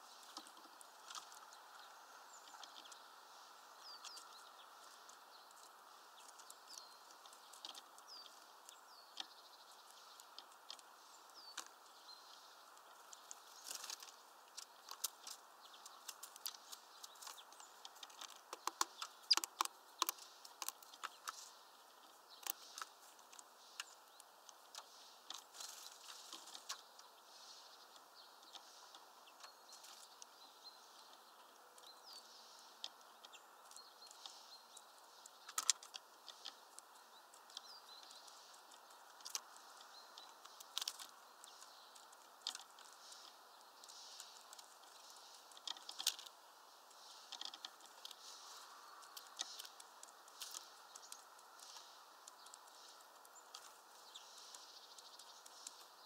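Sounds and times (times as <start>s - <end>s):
faint high bird chirps: 0.0s - 56.0s
woodpecker tapping: 0.0s - 56.0s.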